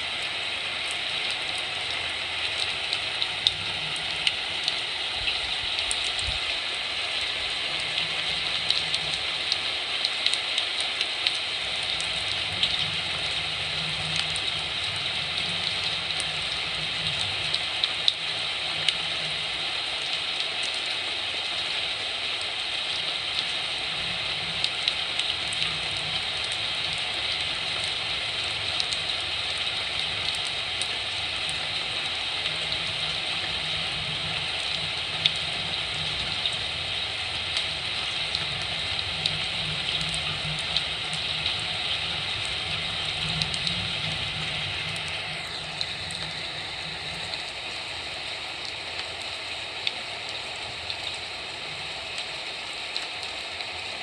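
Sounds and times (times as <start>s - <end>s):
heavy rain hissing: 0.0s - 54.0s
raindrops splashing on surfaces: 0.0s - 54.0s.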